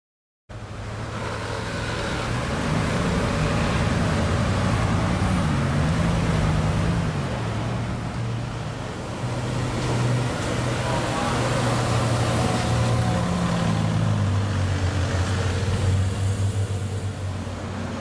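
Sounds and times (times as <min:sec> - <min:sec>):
street traffic noise: 0:00.5 - 0:18.0.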